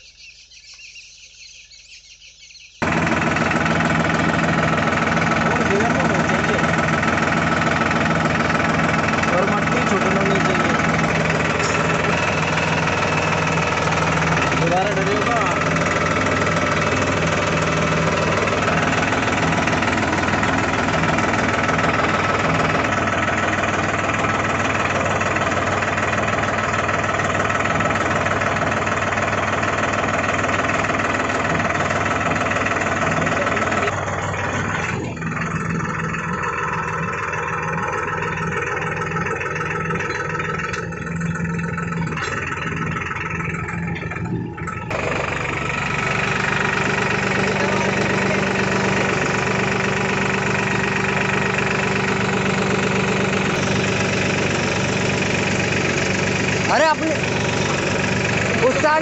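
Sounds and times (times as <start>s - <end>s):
tractor diesel engine running: 2.6s - 59.0s.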